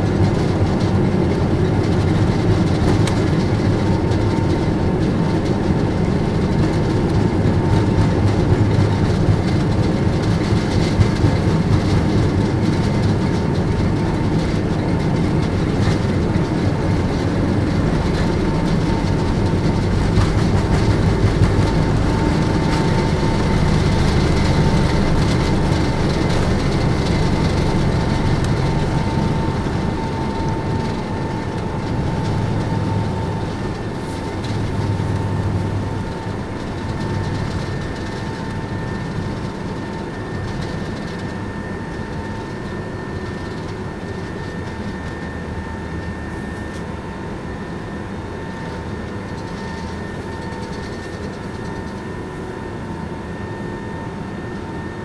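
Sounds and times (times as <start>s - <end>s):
jet engines roaring: 0.0s - 55.0s
wheels rumbling on runway: 0.0s - 55.0s.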